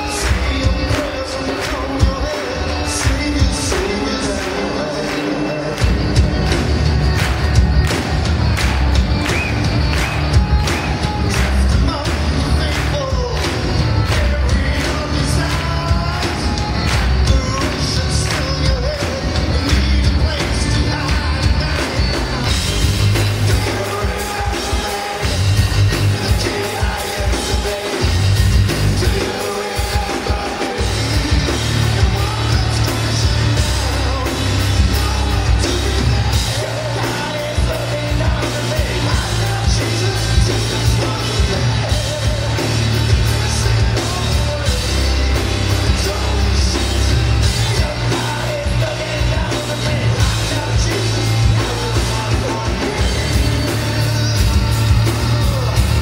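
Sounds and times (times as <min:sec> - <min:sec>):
man singing: 0:00.0 - 0:06.9, 0:09.2 - 0:56.0
drum kit: 0:00.0 - 0:56.0.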